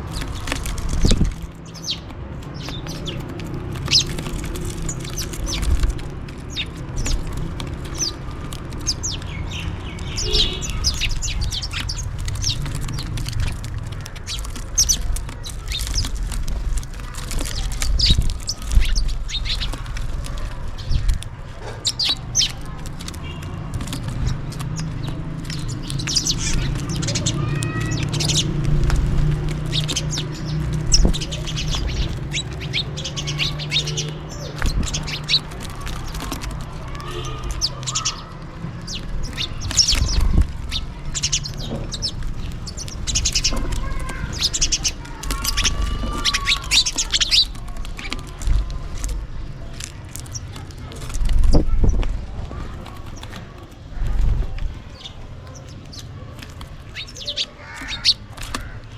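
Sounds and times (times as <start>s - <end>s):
sparrows chirping: 0.0s - 58.9s.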